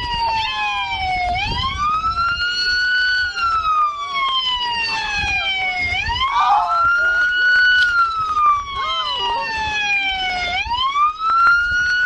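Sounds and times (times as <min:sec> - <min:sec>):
emergency siren wailing: 0:00.0 - 0:12.0.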